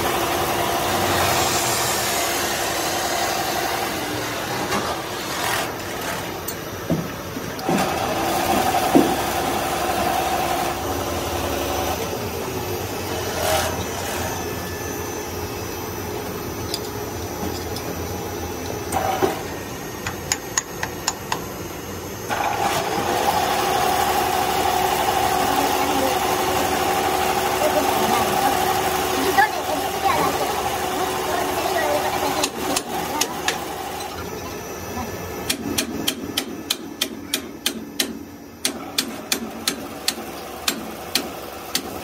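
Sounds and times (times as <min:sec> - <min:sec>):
pipe extruder motor whine: 0:00.0 - 0:06.5, 0:07.4 - 0:35.6.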